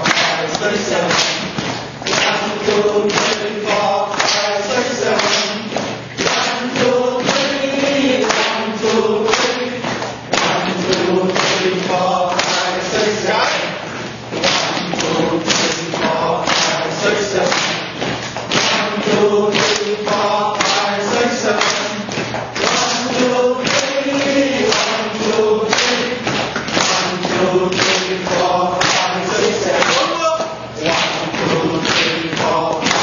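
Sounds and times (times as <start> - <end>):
hands clapping: 0.0 - 13.8, 14.4 - 33.0
group chanting in unison: 0.0 - 33.0.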